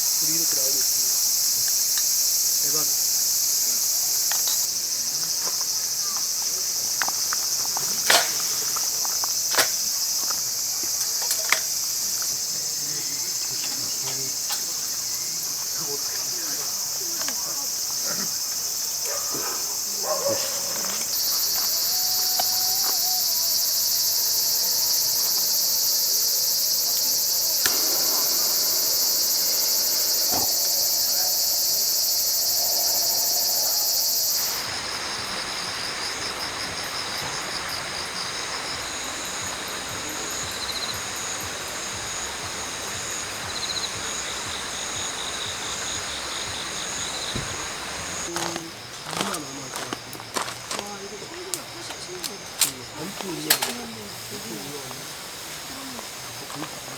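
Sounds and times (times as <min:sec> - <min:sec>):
crickets chirping: 0:00.0 - 0:56.9
pulsed insect trills: 0:00.0 - 0:56.9
steady hiss: 0:00.0 - 0:56.9.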